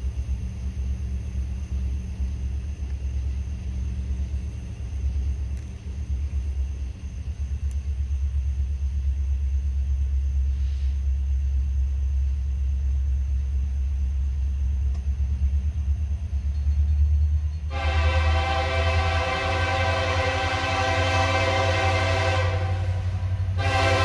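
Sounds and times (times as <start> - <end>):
diesel freight train rumble: 0.0 - 24.0.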